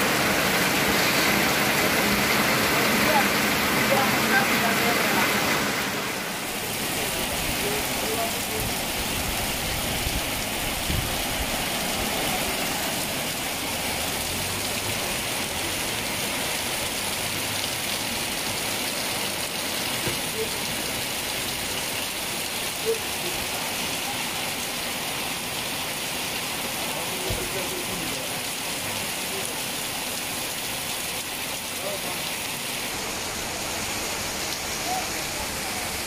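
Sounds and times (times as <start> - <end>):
heavy rain on a street: 0.0 - 36.0.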